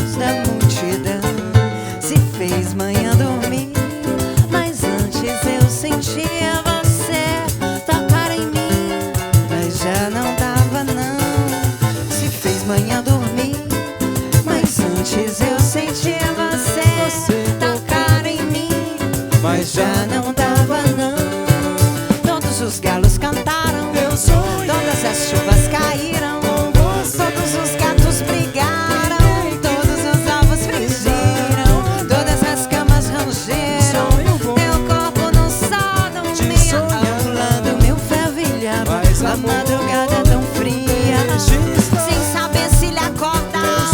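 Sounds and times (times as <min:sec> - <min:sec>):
live samba band playing: 0:00.0 - 0:43.9
person singing melody: 0:00.0 - 0:43.9
deep regular drum beat: 0:08.0 - 0:43.9.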